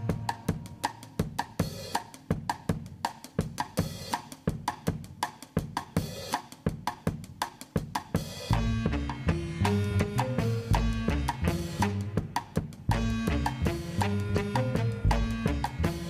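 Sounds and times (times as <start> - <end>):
drum kit quick strikes: 0.0 - 16.0.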